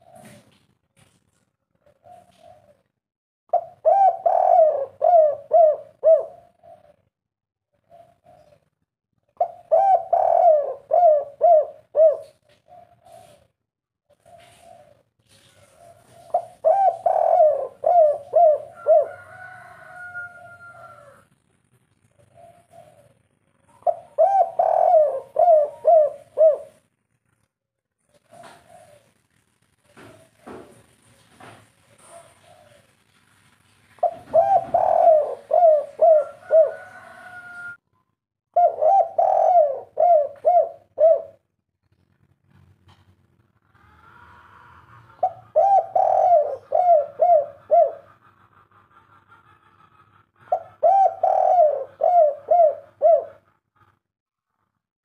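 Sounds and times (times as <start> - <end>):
dove cooing: 0.0 - 0.6, 1.8 - 2.9, 3.5 - 7.1, 7.8 - 8.8, 9.4 - 21.2, 22.0 - 26.9, 28.0 - 30.8, 31.4 - 33.1, 34.0 - 37.8, 38.5 - 41.5, 43.8 - 54.0.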